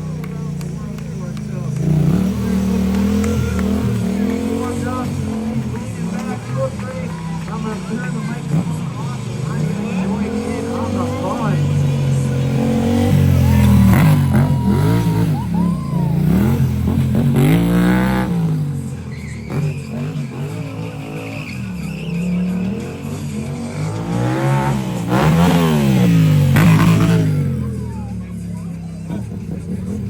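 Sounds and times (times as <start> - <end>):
motorcycle engine revving: 0.0 - 30.0
tyre squeals: 1.9 - 27.6.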